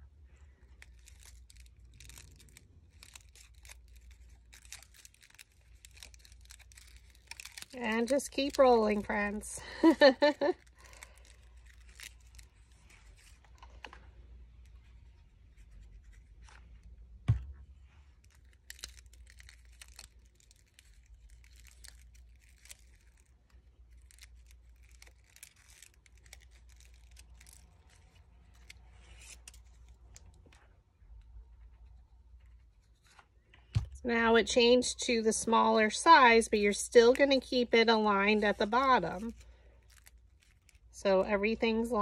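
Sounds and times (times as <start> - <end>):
paper rustling and crinkling: 0.3 - 30.8, 31.5 - 34.1, 37.0 - 42.0.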